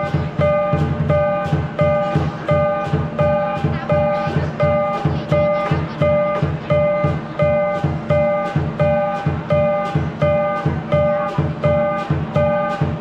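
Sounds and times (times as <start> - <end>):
cymbals clashing: 0.0 - 13.0
gong ringing: 0.0 - 13.0
large drum beating: 0.0 - 13.0.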